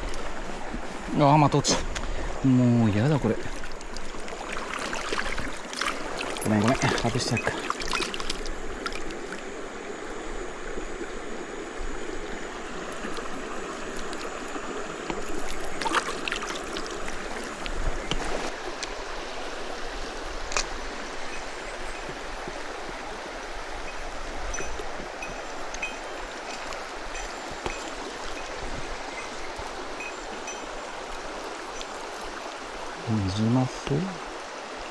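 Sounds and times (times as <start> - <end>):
stream water running over rocks: 0.0 - 34.9.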